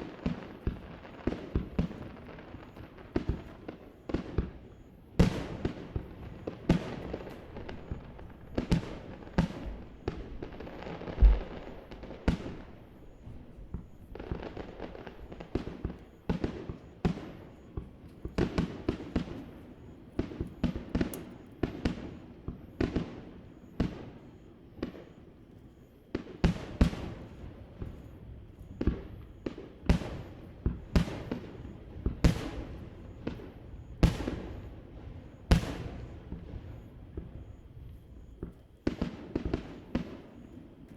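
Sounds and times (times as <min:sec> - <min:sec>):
fireworks booming with echo: 0:00.0 - 0:25.3, 0:26.1 - 0:40.9.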